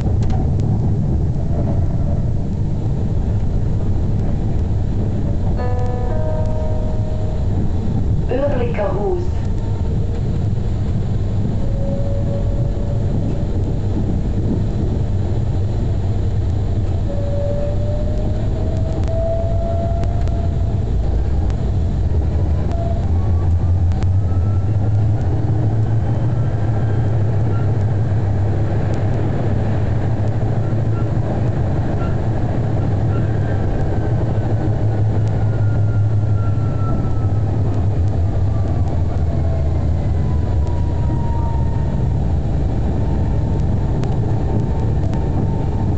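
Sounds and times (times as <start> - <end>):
tram low hum: 0.0 - 45.9.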